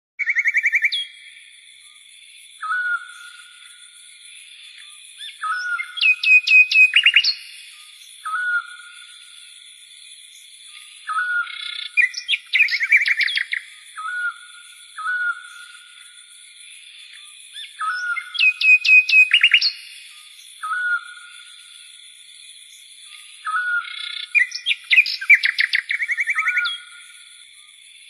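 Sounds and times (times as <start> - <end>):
bird-like chirping: 0.2 - 1.4, 2.6 - 9.6, 10.3 - 21.8, 22.6 - 27.6.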